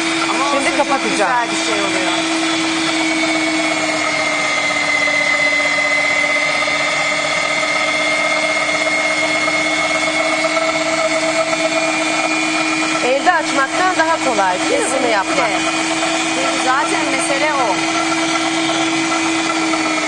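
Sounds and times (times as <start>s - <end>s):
electric meat grinder motor: 0.0s - 20.0s.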